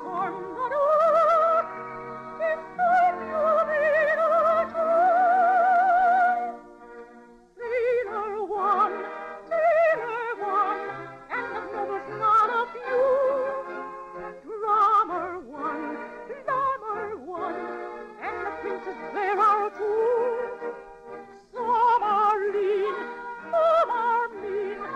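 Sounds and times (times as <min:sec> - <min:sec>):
operatic soprano singing: 0:00.0 - 0:06.6, 0:07.6 - 0:13.8, 0:14.4 - 0:20.8, 0:21.5 - 0:24.9.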